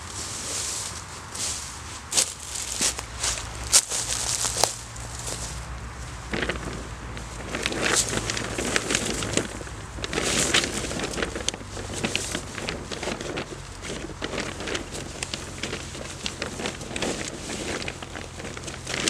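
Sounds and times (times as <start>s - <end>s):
dry leaves crackling underfoot: 0.0s - 19.0s
foil blanket crinkling: 0.0s - 19.0s.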